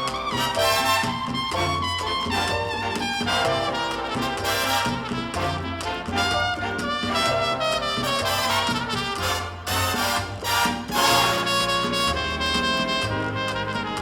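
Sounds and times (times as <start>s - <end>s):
big band playing cha-cha: 0.0s - 14.0s
trumpets and trombones: 0.0s - 14.0s.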